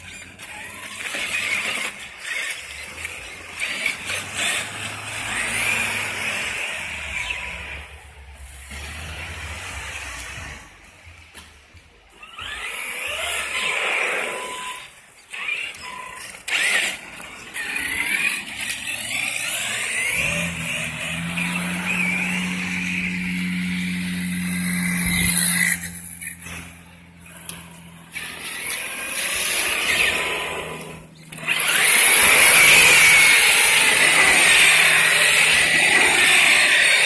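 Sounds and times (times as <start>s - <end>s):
electric motors whining: 0.0s - 37.0s.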